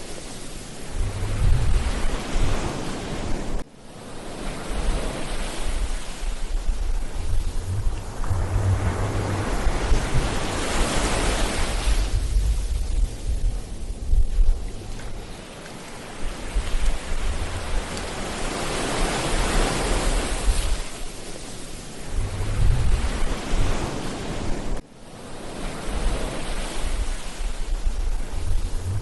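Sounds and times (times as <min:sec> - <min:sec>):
ocean waves washing on beach: 0:00.0 - 0:29.0
wind buffeting microphone: 0:00.7 - 0:03.6, 0:04.6 - 0:21.2, 0:21.9 - 0:24.8, 0:25.9 - 0:29.0.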